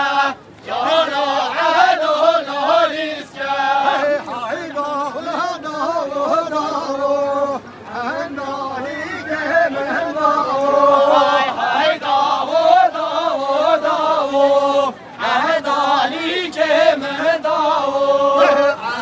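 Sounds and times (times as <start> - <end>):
person singing unaccompanied: 0.0 - 19.0.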